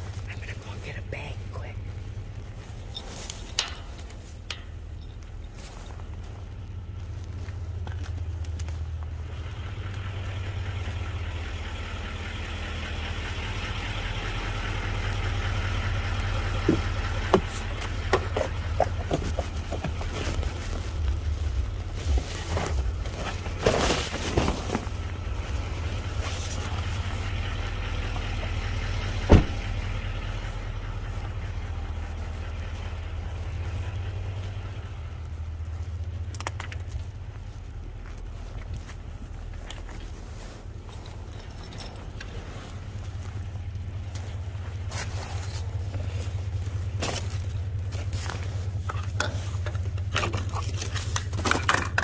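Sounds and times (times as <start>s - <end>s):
vehicle engine idling: 0.0s - 52.0s
clicks and rustling of handling: 1.9s - 9.3s, 15.1s - 27.4s, 28.0s - 52.0s.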